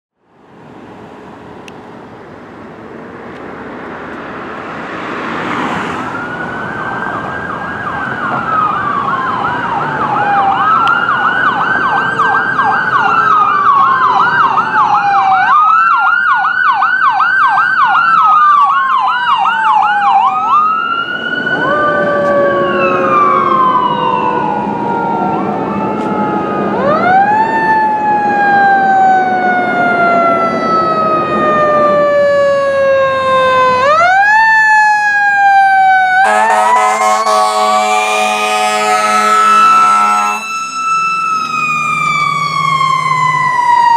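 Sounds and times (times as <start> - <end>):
road and engine noise: 0.1 - 43.9
fire engine siren wailing: 5.0 - 43.9
ambulance siren wailing: 5.2 - 43.9.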